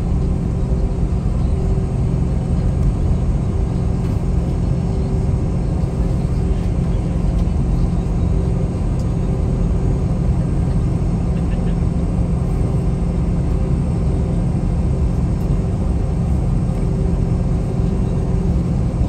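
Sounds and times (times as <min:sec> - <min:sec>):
jet engines idling in cabin: 0:00.0 - 0:19.0.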